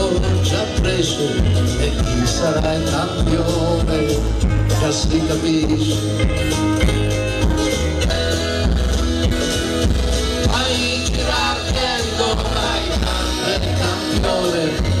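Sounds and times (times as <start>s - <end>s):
live country band playing: 0.0s - 15.0s
strummed acoustic guitars: 0.0s - 15.0s.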